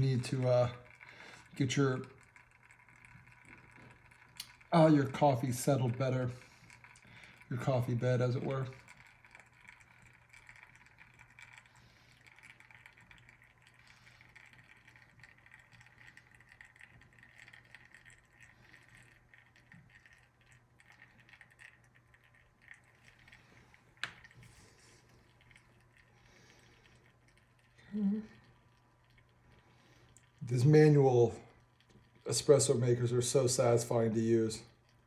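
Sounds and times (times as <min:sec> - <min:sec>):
espresso trickling into cup: 0:00.0 - 0:35.0
low steady hum: 0:00.0 - 0:35.0.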